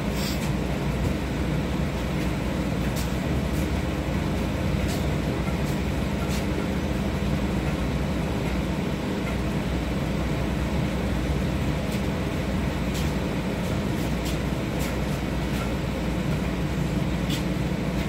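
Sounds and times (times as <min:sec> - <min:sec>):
tram equipment humming: 0:00.0 - 0:18.0.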